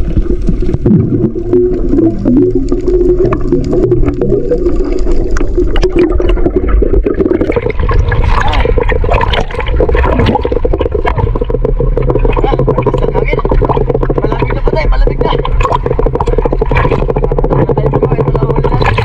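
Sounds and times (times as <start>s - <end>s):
sea water splashing: 0.0s - 19.0s
water bubbling underwater: 0.0s - 19.0s.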